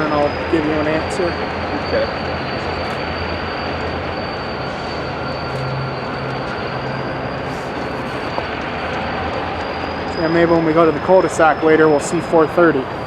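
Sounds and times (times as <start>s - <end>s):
diesel engine hum: 0.0s - 13.0s
high whine: 0.0s - 13.0s
train rolling rumble: 0.0s - 13.0s.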